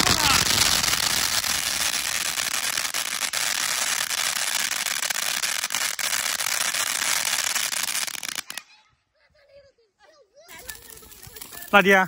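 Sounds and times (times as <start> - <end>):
firework hissing and crackling: 0.0 - 8.6, 10.5 - 12.0.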